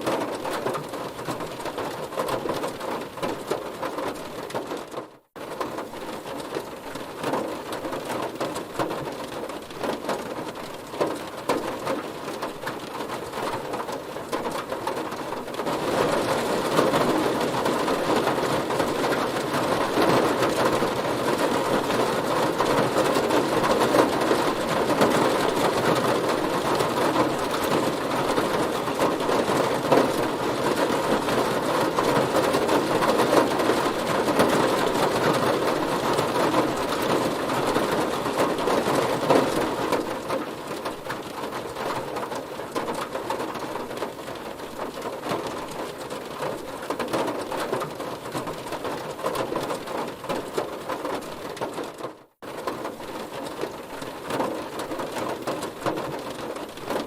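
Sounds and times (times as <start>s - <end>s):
heavy rain drumming on car: 0.0s - 57.0s.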